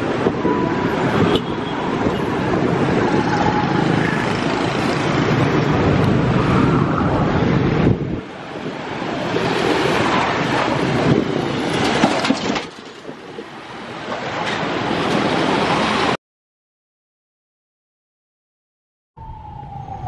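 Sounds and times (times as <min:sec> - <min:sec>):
motorbike and car traffic: 0:00.0 - 0:16.2.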